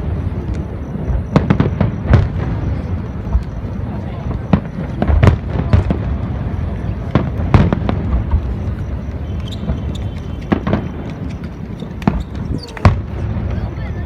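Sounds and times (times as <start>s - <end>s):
firework bangs: 0.0s - 14.0s
steady low rumble: 0.0s - 14.0s.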